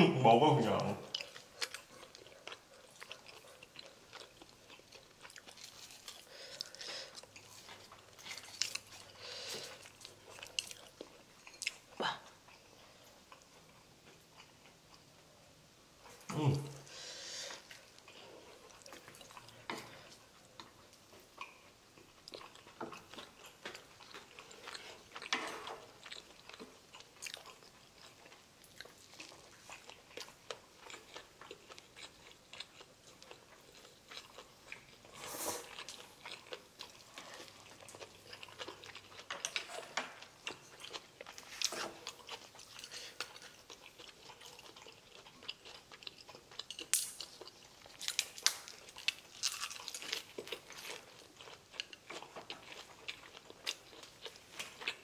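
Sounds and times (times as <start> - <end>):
chewing and crunching: 0.7 - 15.1, 17.5 - 55.0.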